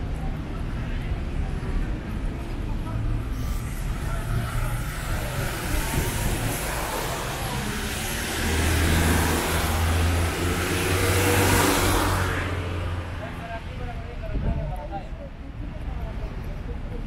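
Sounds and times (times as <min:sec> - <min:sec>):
vehicle engine hum: 0:00.0 - 0:14.2.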